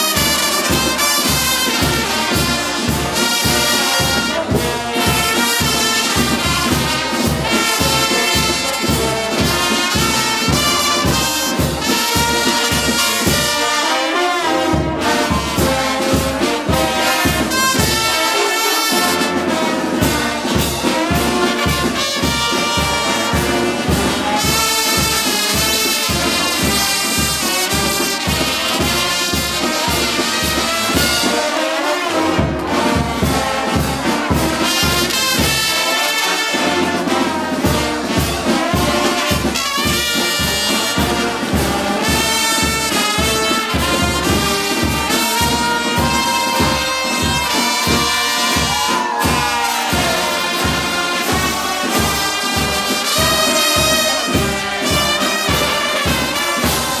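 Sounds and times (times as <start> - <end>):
brass band playing march: 0.0 - 57.0.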